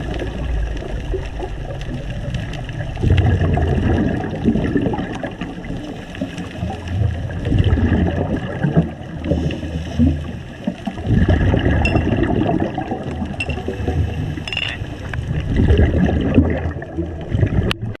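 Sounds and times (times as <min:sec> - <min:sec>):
underwater exhaled bubbles gurgling: 0:00.0 - 0:18.0.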